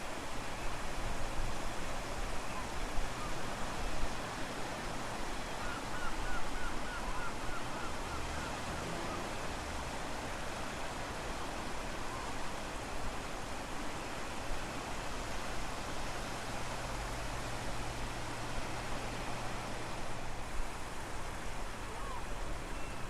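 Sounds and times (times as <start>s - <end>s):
ocean surf: 1.9s - 23.0s.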